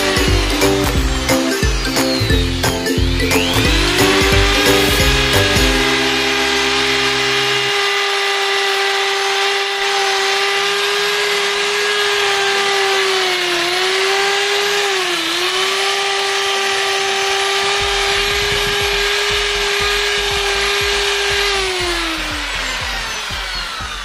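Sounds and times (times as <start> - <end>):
buffing wheel polishing metal: 0.0 - 24.0
electric drill motor whine: 0.0 - 24.0.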